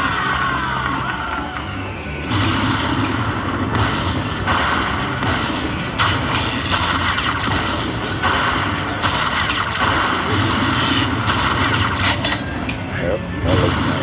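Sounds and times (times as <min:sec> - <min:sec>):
slot machine game sounds and music: 0:00.0 - 0:14.0.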